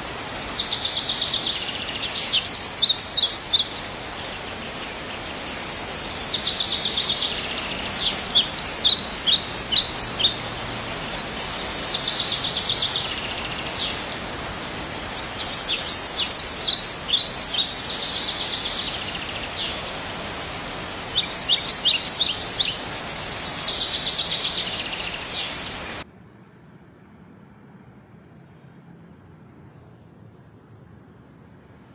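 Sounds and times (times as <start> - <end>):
songbird singing trills: 0.0 - 26.0.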